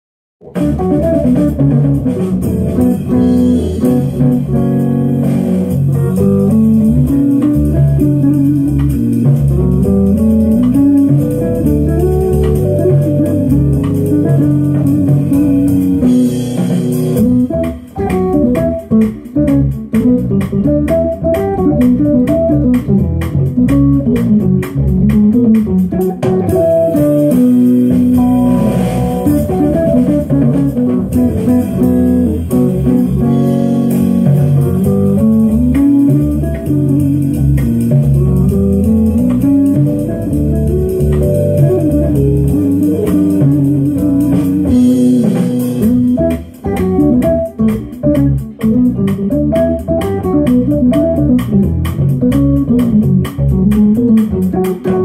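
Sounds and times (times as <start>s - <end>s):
electric guitar melody: 0.4s - 55.0s
low bass notes: 0.4s - 55.0s.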